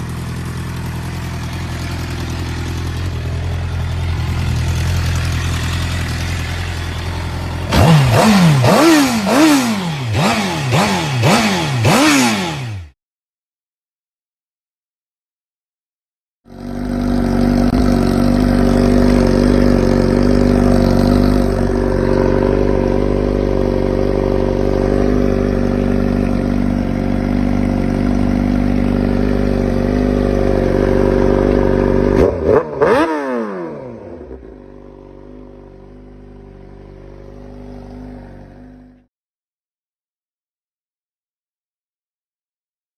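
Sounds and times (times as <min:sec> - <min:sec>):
motorcycle engine running: 0:00.0 - 0:13.0, 0:16.5 - 0:39.1.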